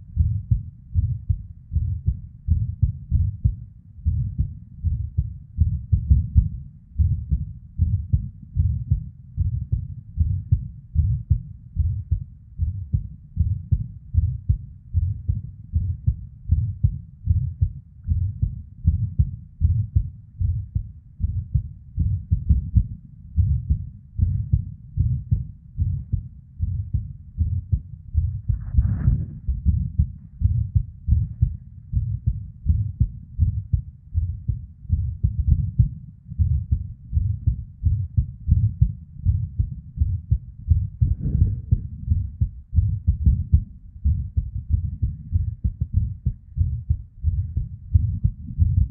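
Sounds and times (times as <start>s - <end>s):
heartbeat thumps: 0.0s - 48.9s.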